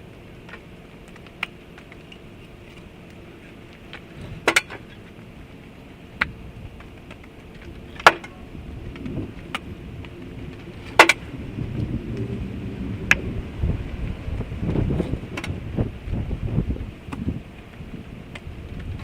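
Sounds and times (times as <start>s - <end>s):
low wind rumble: 0.0s - 19.0s.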